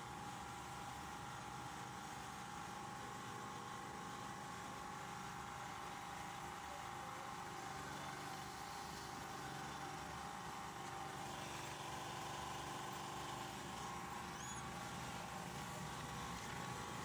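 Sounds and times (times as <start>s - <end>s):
photocopier running: 2.3s - 17.0s.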